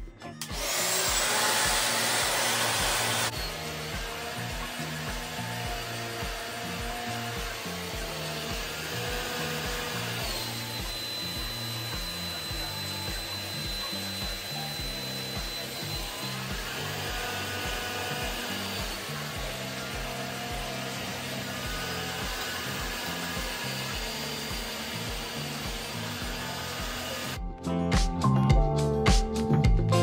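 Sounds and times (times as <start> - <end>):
background music with beat: 0.0 - 30.0
hot-air dryer brush blowing: 0.4 - 27.4.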